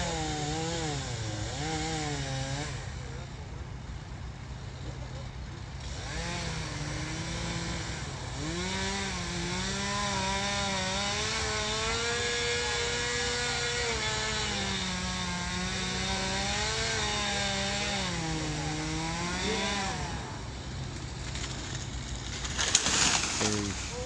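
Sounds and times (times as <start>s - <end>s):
chainsaw cutting wood: 0.0s - 3.4s, 5.5s - 24.0s.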